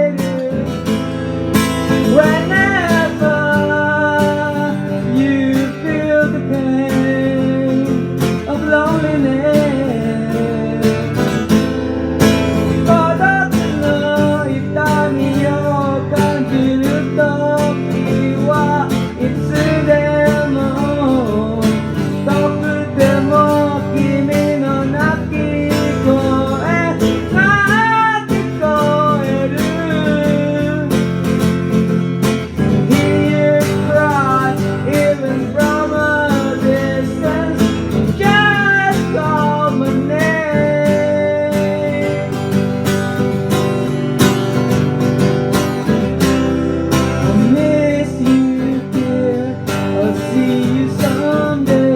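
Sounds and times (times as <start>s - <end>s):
person singing: 0.0s - 44.7s, 45.8s - 51.9s
acoustic guitar strumming: 0.0s - 51.9s.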